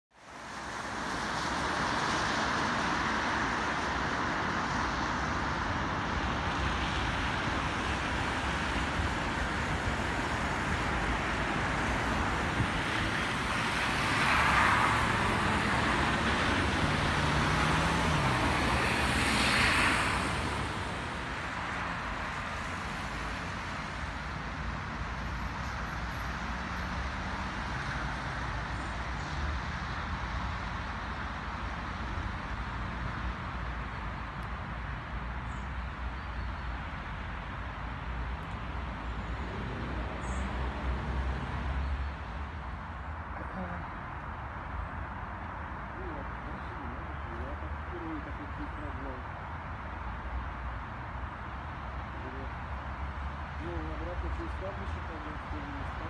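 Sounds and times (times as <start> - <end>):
road traffic noise: 0.1 - 56.0
vehicles passing close by: 0.1 - 56.0.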